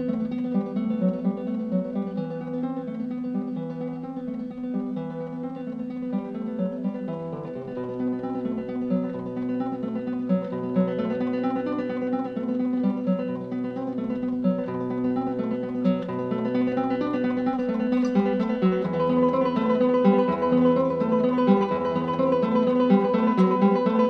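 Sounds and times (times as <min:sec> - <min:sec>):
plucked guitar latin music: 0:00.0 - 0:24.0.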